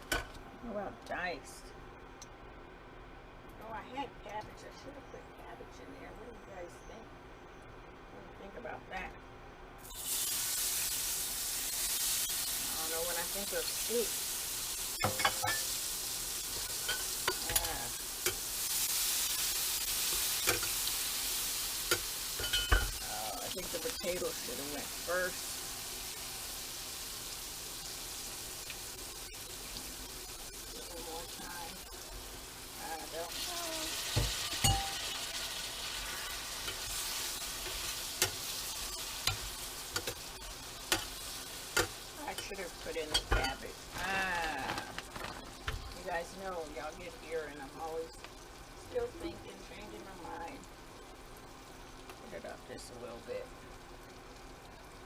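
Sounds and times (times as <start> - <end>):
vegetables sizzling in a pot: 9.8 - 55.0.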